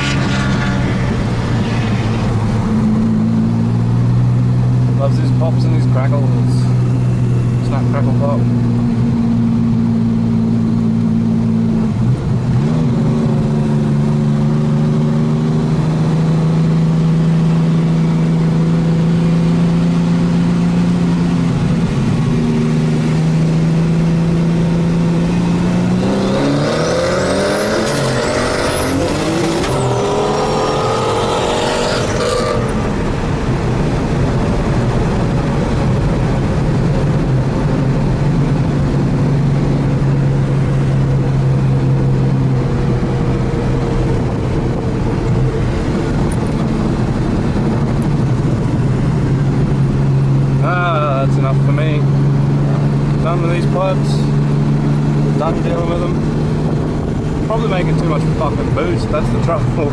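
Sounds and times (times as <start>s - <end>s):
car accelerating hard: 0.0s - 59.9s
car engine running: 0.0s - 59.9s.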